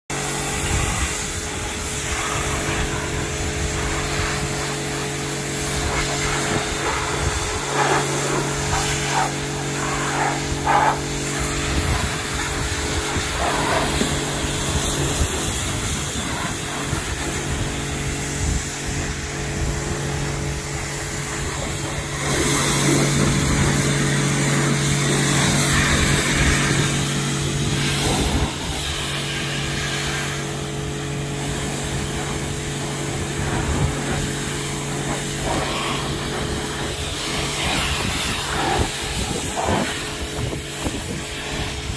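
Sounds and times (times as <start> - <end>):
pressure washer motor hum: 0.1 - 41.9
water jet spraying metal: 0.1 - 41.9.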